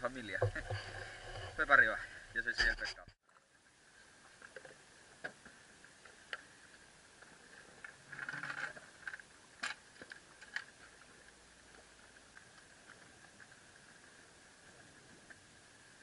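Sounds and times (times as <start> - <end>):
steady faint hiss: 0.0 - 16.0.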